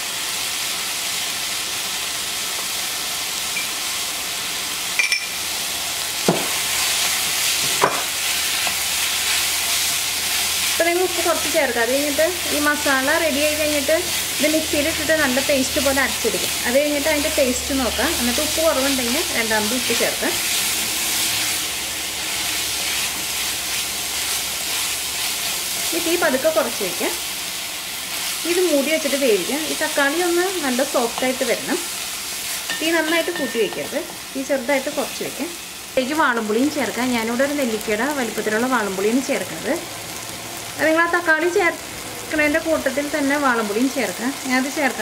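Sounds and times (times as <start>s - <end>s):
masala sizzling in oil: 0.0s - 45.0s.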